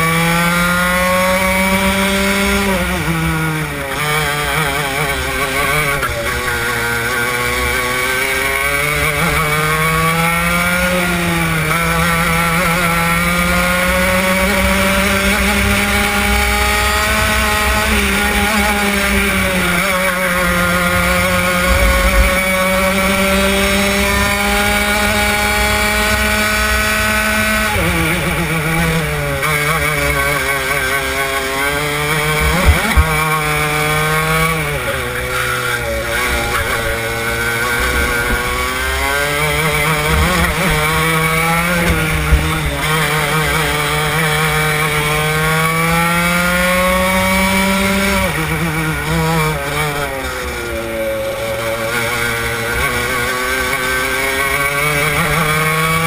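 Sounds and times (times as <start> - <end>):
racing kart engine at full throttle: 0.0 - 56.0.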